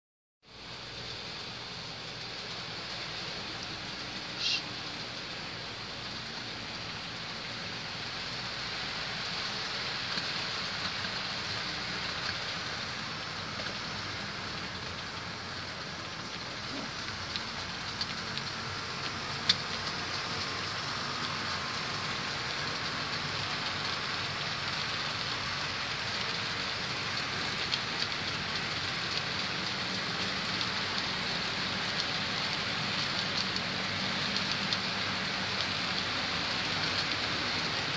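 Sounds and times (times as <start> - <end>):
model train rolling on track: 0.5 - 37.9.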